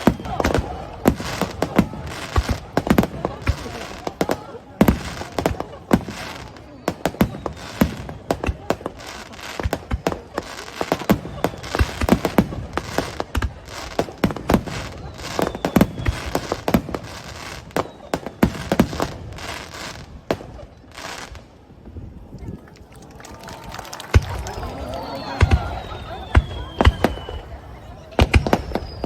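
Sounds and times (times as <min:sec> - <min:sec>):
fireworks bangs and crackles: 0:00.0 - 0:22.7, 0:23.5 - 0:29.0.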